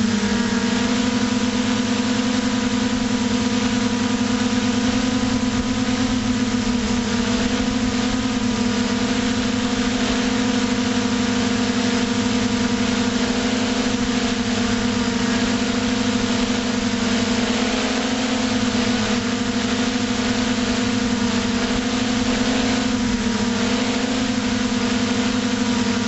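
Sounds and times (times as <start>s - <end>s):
drone motors humming: 0.0s - 26.0s.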